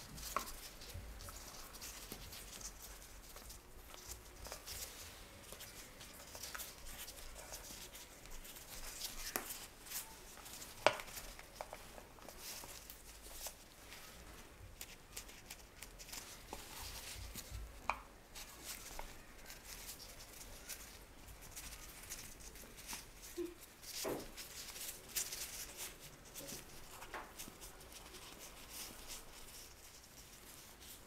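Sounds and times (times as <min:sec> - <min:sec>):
dough rustling: 0:00.0 - 0:31.0.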